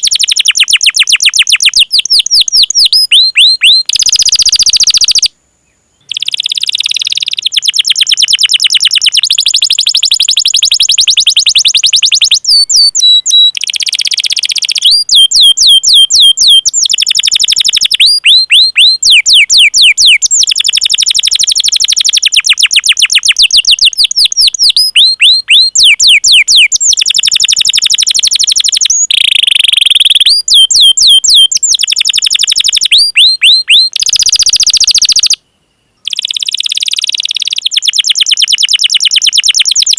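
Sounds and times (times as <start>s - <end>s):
canary singing trills and chirps: 0.0s - 5.3s, 6.0s - 35.4s, 36.0s - 39.9s.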